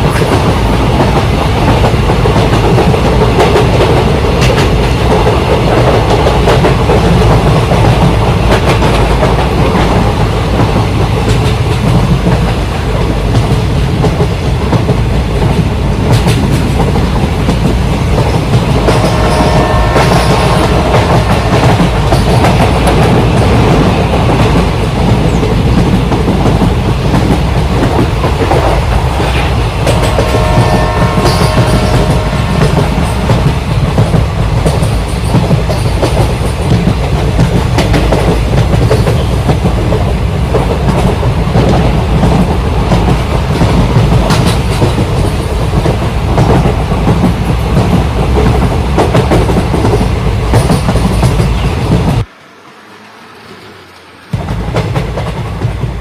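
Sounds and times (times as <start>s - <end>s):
train wheels clacking on rails: 0.0s - 52.3s, 53.4s - 56.0s.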